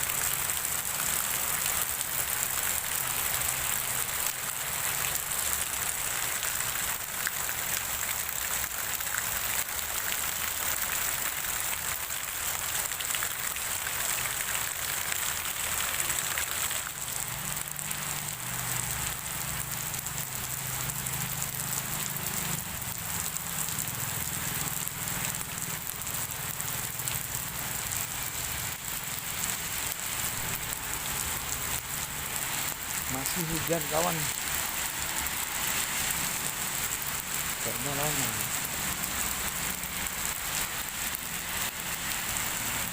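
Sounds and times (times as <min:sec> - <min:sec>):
rain falling: 0:00.0 - 0:42.9.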